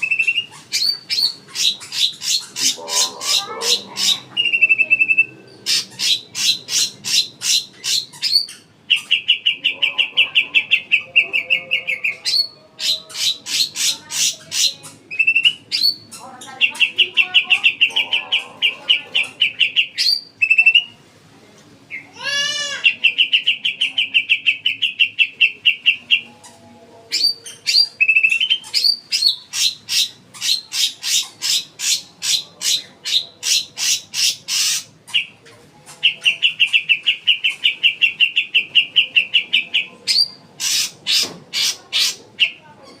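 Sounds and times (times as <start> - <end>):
bird singing trills: 0.0 - 21.0, 22.9 - 43.0.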